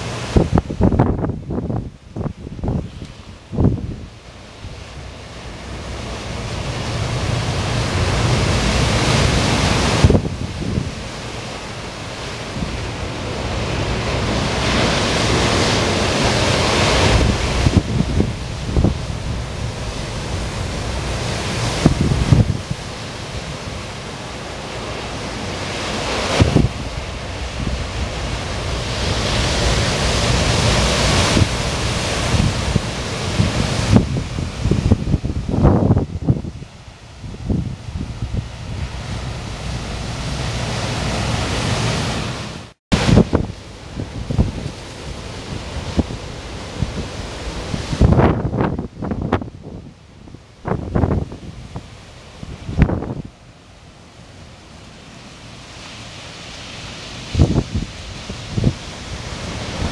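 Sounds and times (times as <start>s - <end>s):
wind buffeting microphone: 0.0s - 53.6s, 56.5s - 59.9s
surf crashing on beach: 0.0s - 59.9s.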